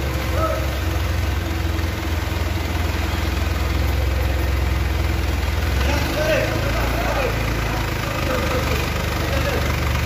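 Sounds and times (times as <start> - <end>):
forklift engine humming: 0.0 - 10.0.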